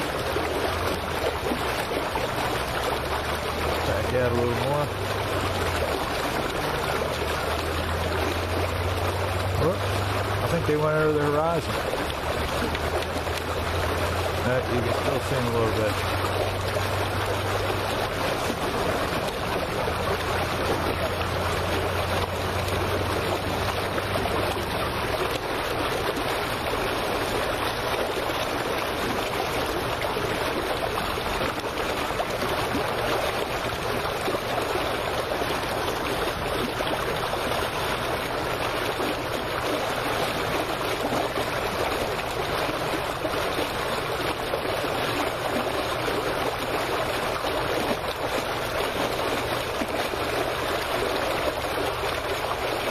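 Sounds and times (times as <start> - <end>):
water lapping: 0.0 - 52.9.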